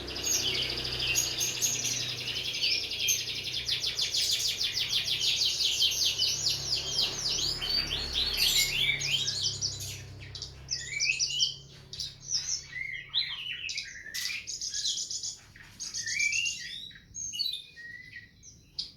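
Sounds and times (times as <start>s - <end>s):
songbird trilling and chirping: 0.0s - 18.9s.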